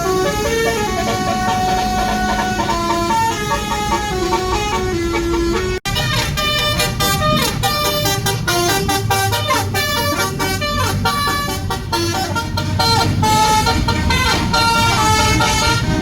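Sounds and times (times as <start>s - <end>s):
bus engine running: 0.0s - 16.0s
musical bus horn tune: 0.0s - 16.0s.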